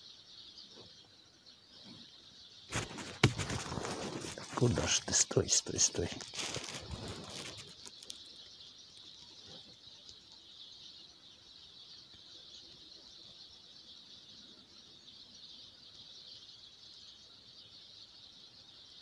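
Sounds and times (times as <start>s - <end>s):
faint high-pitched chirring hiss: 0.0s - 19.0s.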